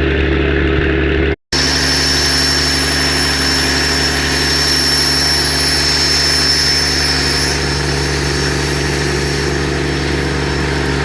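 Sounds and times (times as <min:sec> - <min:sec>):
boat engine low drone: 0:00.0 - 0:11.0
thin high whine: 0:01.6 - 0:11.0.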